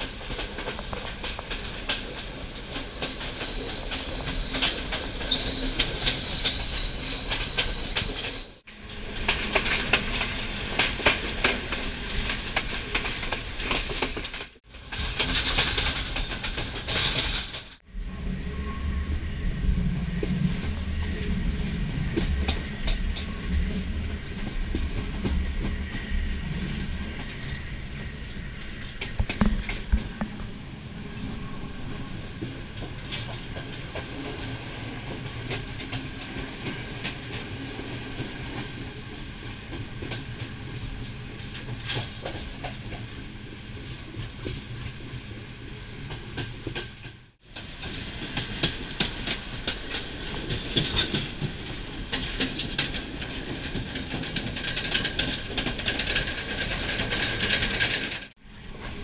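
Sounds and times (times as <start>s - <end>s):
train wheels clicking on rails: 0.0s - 17.8s, 20.1s - 30.5s, 31.9s - 59.0s
train rolling noise: 0.0s - 59.0s.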